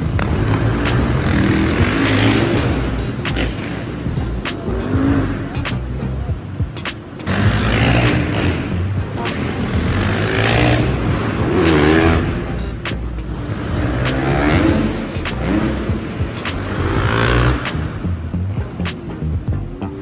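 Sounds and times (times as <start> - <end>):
motorbike engines revving: 0.0 - 20.0.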